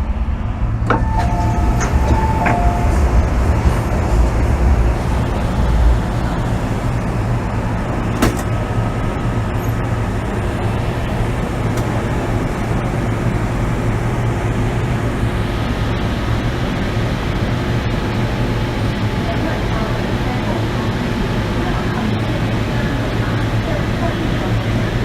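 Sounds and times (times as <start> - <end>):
steady low hum: 0.0 - 25.0
train wheels rumbling: 0.0 - 25.0.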